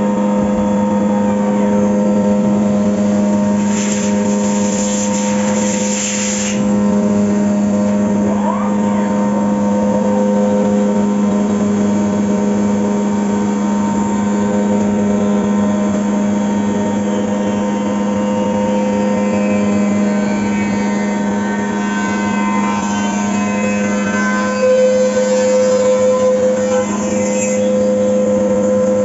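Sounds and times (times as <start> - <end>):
milling machine drone: 0.0 - 29.0
rising machine whine: 0.0 - 29.0.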